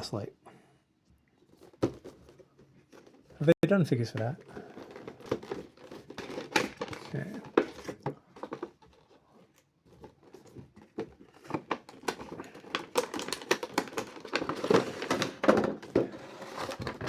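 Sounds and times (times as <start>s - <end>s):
plastic and cardboard packaging rustling: 1.4s - 17.0s.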